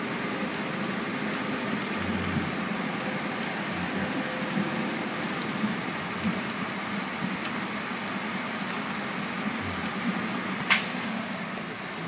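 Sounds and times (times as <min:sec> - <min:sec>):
train rush and rumble: 0:00.0 - 0:12.0.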